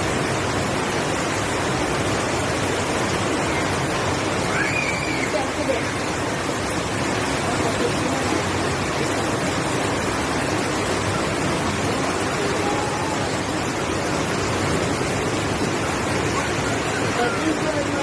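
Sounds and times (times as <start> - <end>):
rushing water from heavy rain: 0.0 - 18.0.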